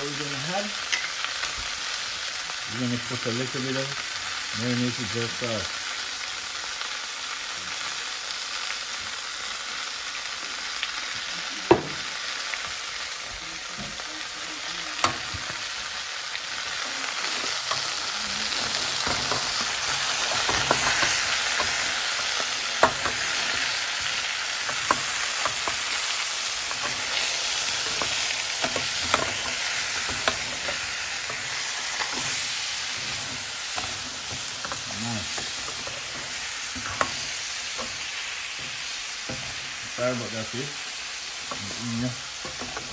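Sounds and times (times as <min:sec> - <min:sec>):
food sizzling in a pot: 0:00.0 - 0:42.9.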